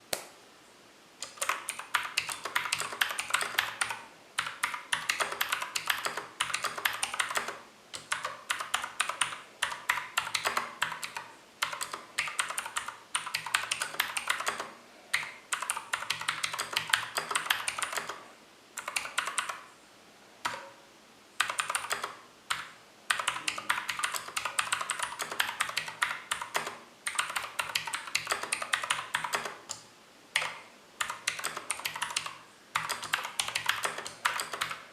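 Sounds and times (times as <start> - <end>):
fast mechanical keyboard typing: 1.2 - 18.2, 18.8 - 19.6, 21.4 - 29.8, 30.4 - 34.9.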